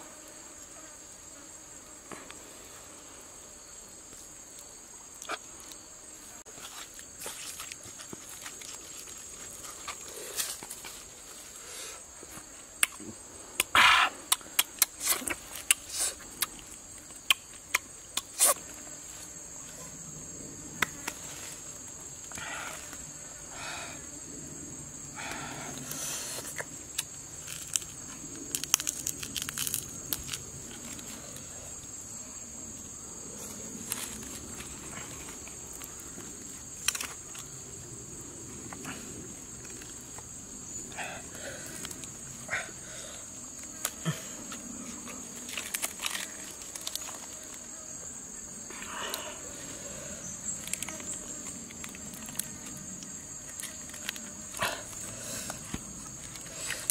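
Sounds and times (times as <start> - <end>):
insects calling in high tone: 0.0 - 56.9.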